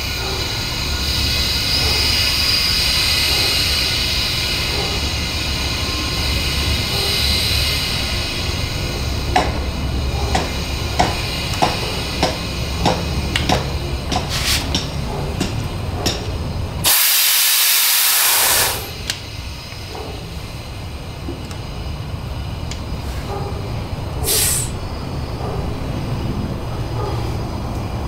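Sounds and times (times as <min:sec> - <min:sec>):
compressed air hissing: 0:00.0 - 0:25.3.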